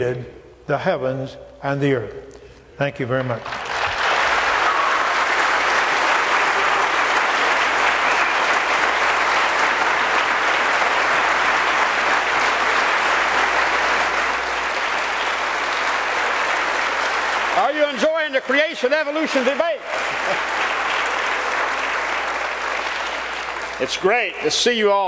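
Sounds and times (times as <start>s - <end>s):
audience applauding: 3.2s - 25.0s.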